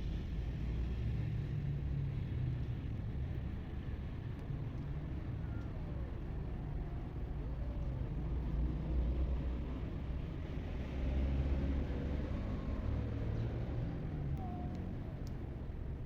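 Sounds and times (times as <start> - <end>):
low outdoor background rumble: 0.0 - 16.0.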